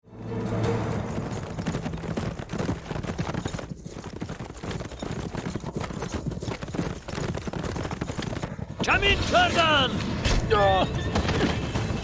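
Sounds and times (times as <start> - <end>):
horses galloping hoofbeats: 0.2 - 9.9, 10.8 - 12.0.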